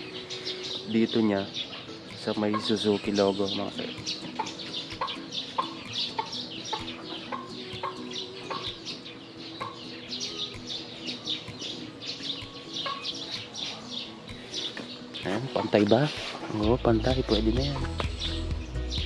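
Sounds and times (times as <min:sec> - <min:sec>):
bird clucking calls: 0:00.0 - 0:18.2
high bird chirps: 0:00.0 - 0:19.0.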